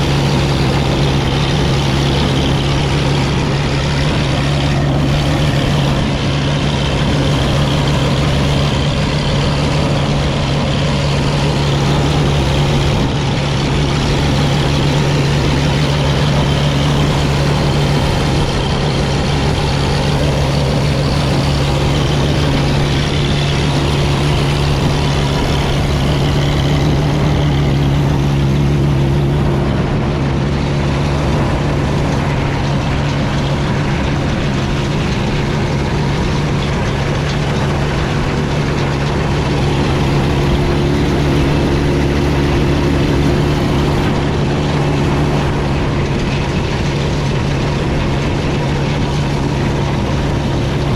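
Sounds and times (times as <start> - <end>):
diesel tractor engine running: 0.0 - 50.9.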